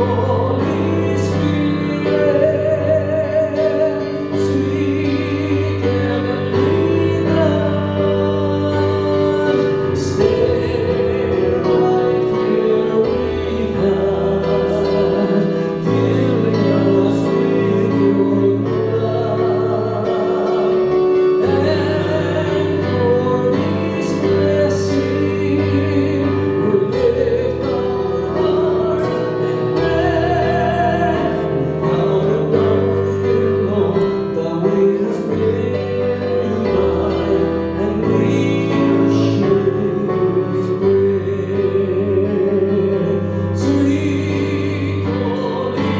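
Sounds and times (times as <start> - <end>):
worship music singing: 0.0 - 45.9.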